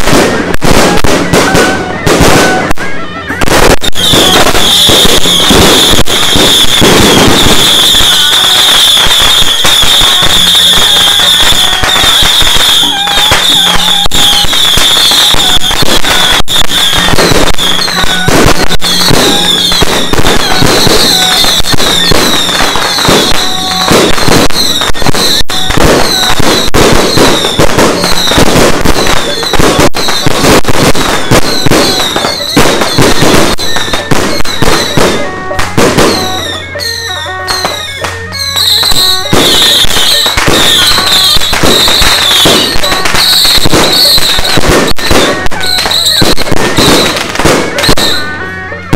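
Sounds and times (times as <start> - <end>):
firecrackers crackling: 0.0 - 48.9
firework bangs: 0.0 - 48.9
high-pitched whistling: 1.6 - 48.9.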